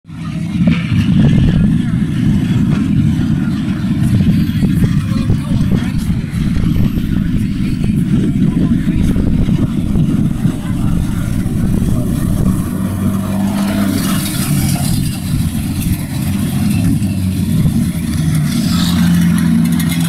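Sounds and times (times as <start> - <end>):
diesel buses driving past: 0.1 - 20.0.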